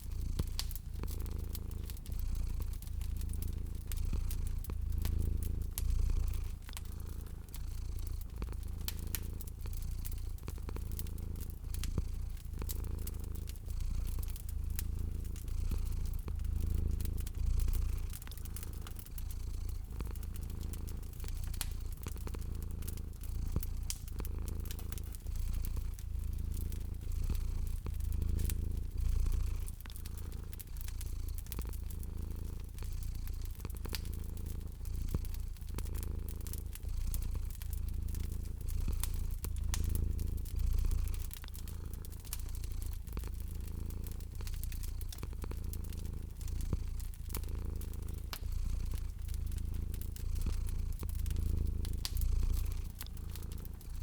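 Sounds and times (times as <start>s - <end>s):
cat purring: 0.0s - 54.0s
fireplace fire crackling: 0.0s - 54.0s.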